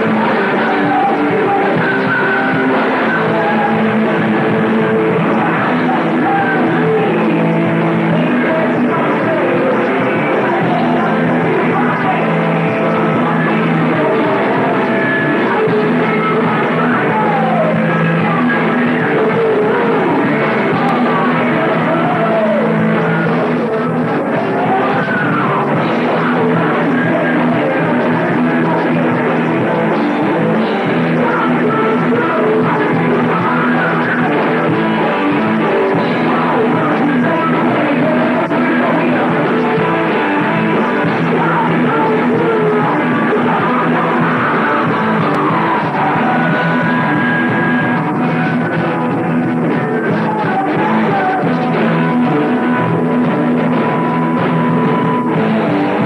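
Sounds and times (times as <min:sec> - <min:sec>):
electric guitars: 0:00.0 - 0:56.0
heavy metal band playing: 0:00.0 - 0:56.0
person singing: 0:00.0 - 0:56.0.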